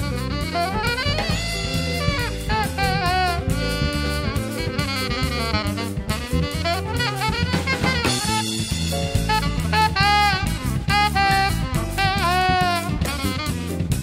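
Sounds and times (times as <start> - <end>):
funk jazz band playing: 0.0 - 14.0
saxophone melody: 0.0 - 14.0.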